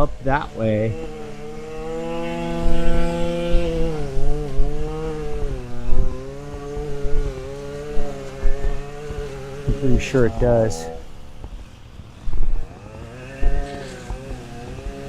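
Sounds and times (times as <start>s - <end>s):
string trimmer engine running: 0.0s - 15.0s.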